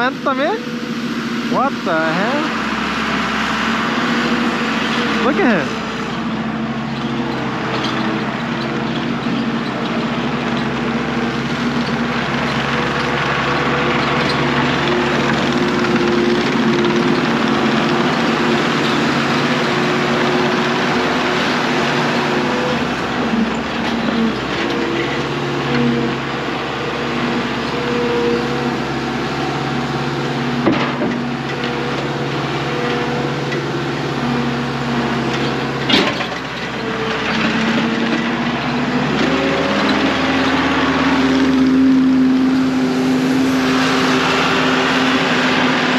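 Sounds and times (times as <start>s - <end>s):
machine engine revving: 1.2s - 45.9s.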